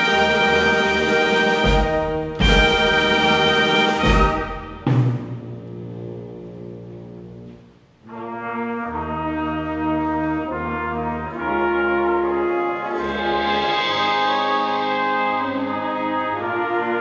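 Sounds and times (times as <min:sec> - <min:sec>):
brass sustained chords: 0:00.0 - 0:17.0
wind band playing: 0:00.0 - 0:17.0.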